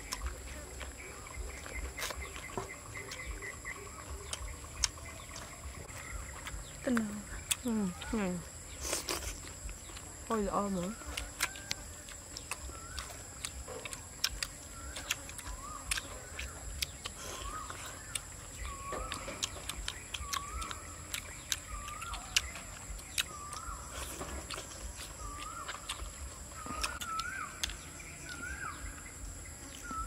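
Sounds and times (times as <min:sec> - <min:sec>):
chewing clicks: 0:00.0 - 0:28.9
bird calling: 0:00.0 - 0:30.0
insects droning: 0:00.0 - 0:30.0.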